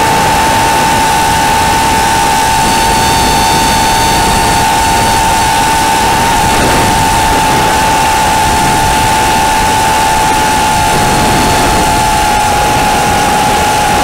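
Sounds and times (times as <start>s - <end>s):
drone motors whining: 0.0s - 14.0s
wind noise: 0.0s - 14.0s.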